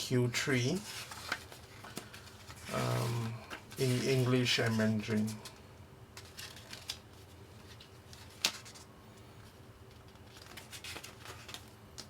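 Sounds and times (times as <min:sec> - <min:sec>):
faint steady hum: 0:00.0 - 0:12.0
paper rustling: 0:00.6 - 0:05.6, 0:06.2 - 0:12.0.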